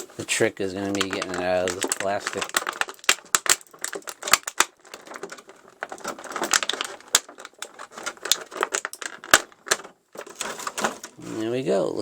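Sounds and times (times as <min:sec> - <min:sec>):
plastic blister tray crackling: 0:00.0 - 0:11.8.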